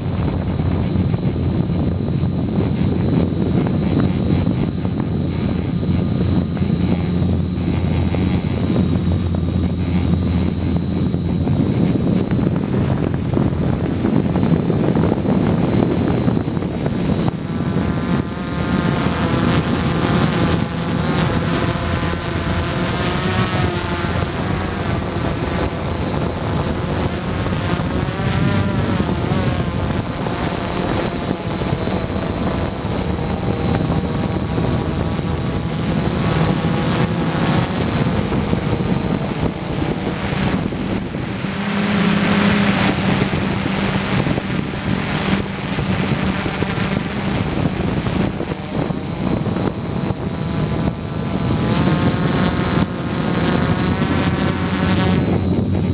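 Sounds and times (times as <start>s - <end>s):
drone motors whining: 0.0s - 55.9s.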